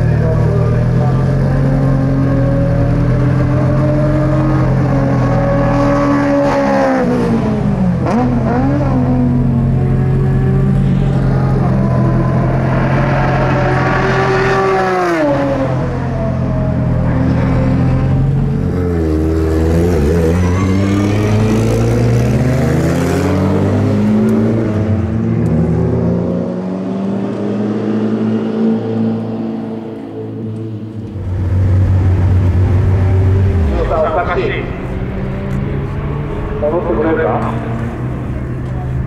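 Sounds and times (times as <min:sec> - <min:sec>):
race car engine at high revs: 0:00.0 - 0:39.0.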